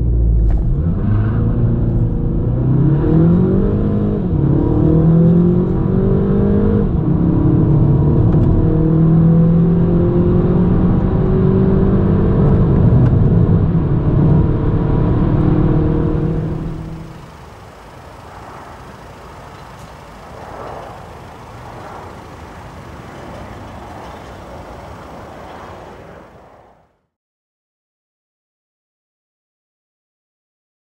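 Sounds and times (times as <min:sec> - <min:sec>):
car engine accelerating: 0:00.0 - 0:26.9.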